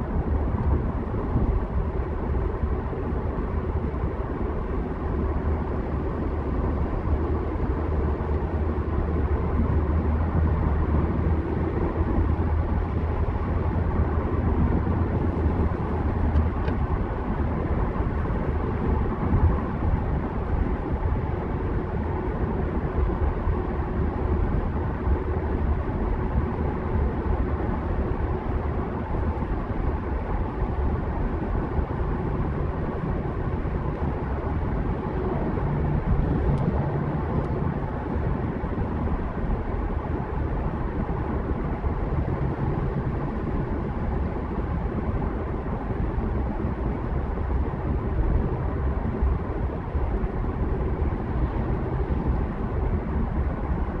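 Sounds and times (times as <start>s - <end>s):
engine hum: 0.0s - 54.0s
road and tyre rumble: 0.0s - 54.0s.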